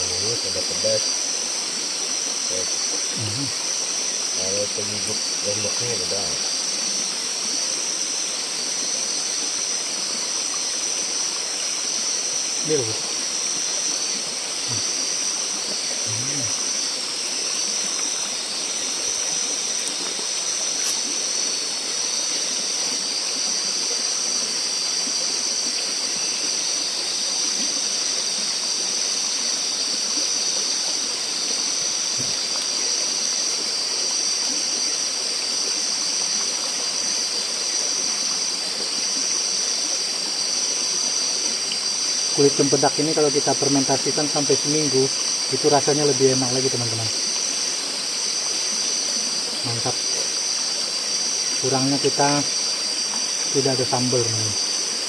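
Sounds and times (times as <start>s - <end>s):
high-pitched hiss: 0.0s - 55.0s.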